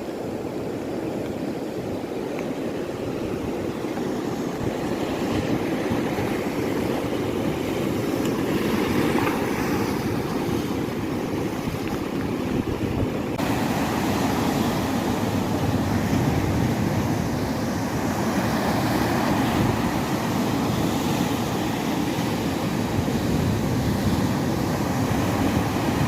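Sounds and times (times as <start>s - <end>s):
waves: 0.0s - 26.0s
wind: 0.0s - 26.0s.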